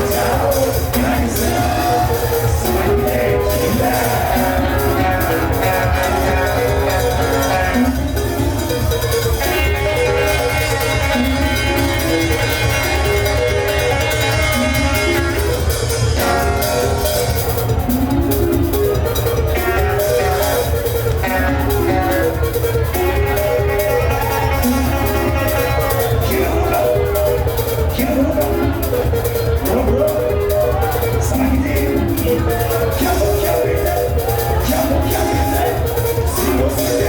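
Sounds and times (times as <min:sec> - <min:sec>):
bass line: 0:00.0 - 0:37.0
drums: 0:00.0 - 0:37.0
plucked lead guitar runs: 0:00.0 - 0:37.0.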